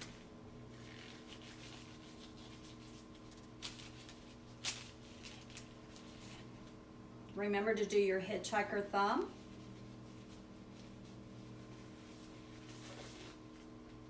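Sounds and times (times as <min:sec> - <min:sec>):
gloves rustling: 0:00.0 - 0:06.8, 0:08.8 - 0:14.0
steady low hum: 0:00.0 - 0:14.0.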